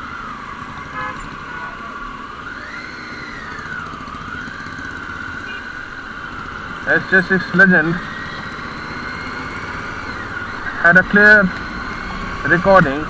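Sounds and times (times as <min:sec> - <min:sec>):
motorcycle engine rumble: 0:00.0 - 0:13.0
motorcycle whine: 0:00.0 - 0:13.0
road noise: 0:00.0 - 0:13.0.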